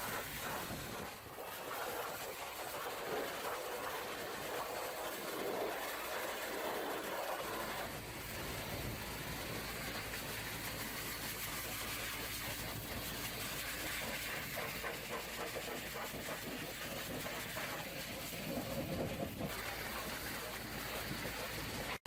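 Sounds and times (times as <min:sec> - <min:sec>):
pressure washer spraying: 0:00.0 - 0:22.0.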